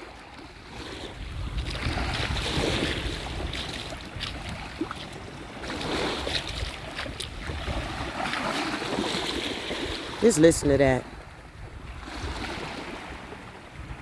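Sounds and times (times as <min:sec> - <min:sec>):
ocean surf washing ashore: 0:00.0 - 0:14.0
wind rumbling on microphone: 0:00.0 - 0:14.0.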